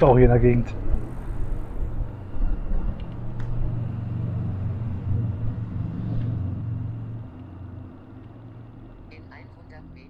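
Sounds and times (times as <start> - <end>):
car rumbling on road: 0.0 - 10.0.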